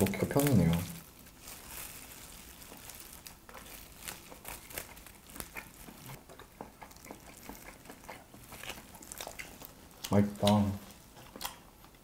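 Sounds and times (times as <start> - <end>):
plastic gloves crinkling: 0.0 - 11.9
chewing: 0.0 - 12.0.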